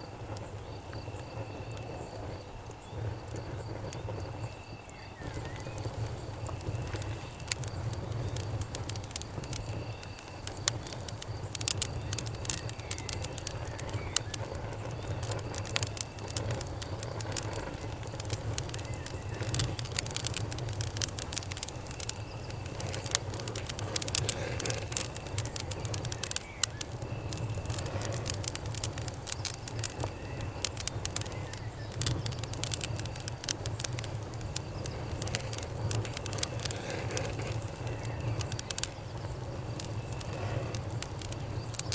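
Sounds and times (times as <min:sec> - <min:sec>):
campfire crackling and popping: 0:00.0 - 0:41.9
crickets chirping: 0:00.0 - 0:41.9.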